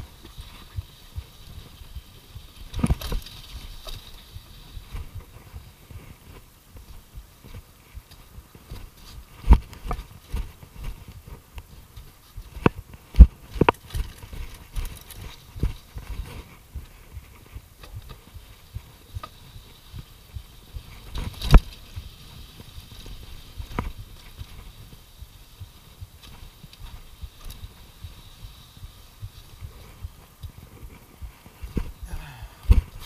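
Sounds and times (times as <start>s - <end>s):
mountain bike rattling downhill: 0.0s - 33.0s
wind rumble on microphone: 0.0s - 33.0s.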